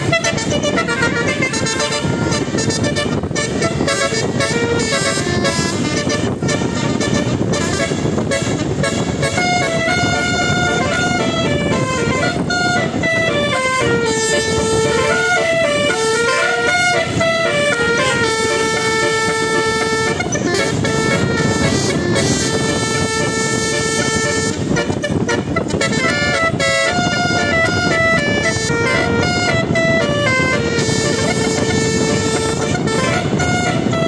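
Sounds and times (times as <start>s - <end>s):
air horns playing a tune: 0.0s - 34.0s.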